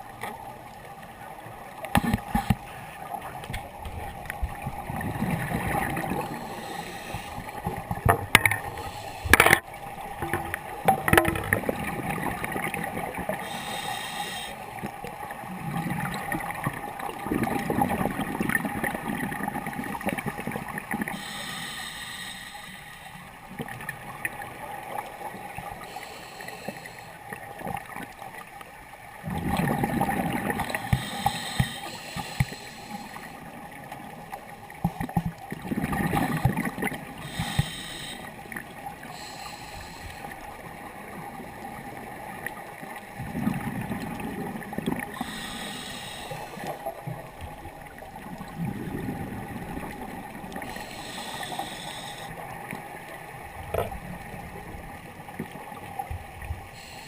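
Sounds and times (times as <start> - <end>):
faint steady tone: 0.0 - 17.2, 18.0 - 29.0, 30.2 - 35.4, 36.2 - 43.0, 43.9 - 57.0
underwater bubbles gurgling: 0.0 - 57.0.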